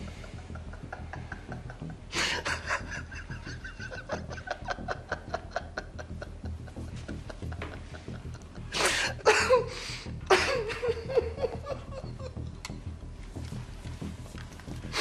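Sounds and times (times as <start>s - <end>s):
man laughing out loud: 0.0s - 12.4s
quiet background music: 0.0s - 15.0s.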